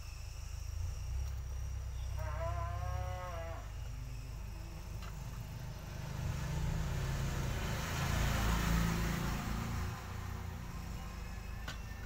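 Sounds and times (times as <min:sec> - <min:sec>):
vehicle passing by: 0:01.8 - 0:12.0.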